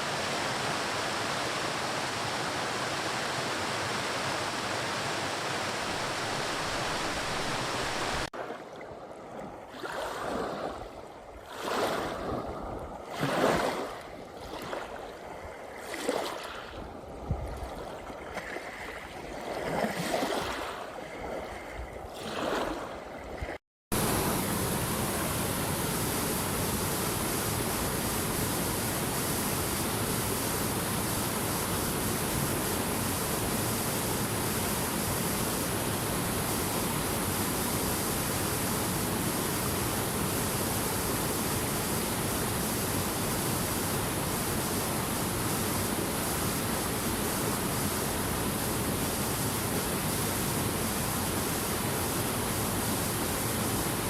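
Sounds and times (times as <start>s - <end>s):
running water rushing: 0.0s - 21.4s, 22.1s - 54.0s
water surging and splashing: 0.0s - 54.0s.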